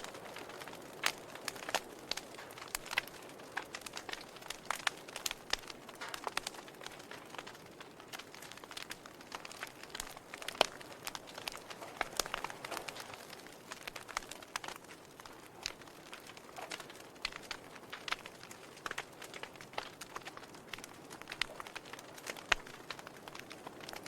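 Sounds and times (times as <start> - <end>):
fire hissing softly: 0.0 - 24.0
logs crackling and popping: 0.0 - 24.0.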